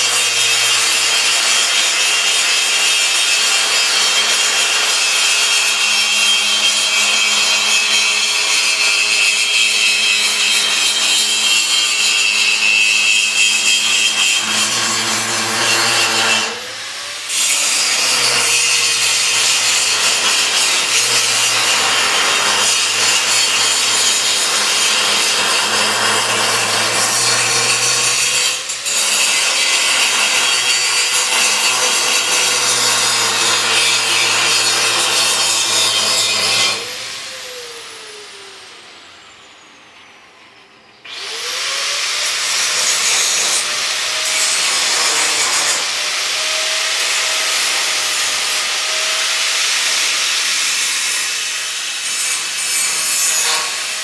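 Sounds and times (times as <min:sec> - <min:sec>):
power tool grinding metal: 0:00.0 - 0:40.1, 0:41.0 - 0:54.0.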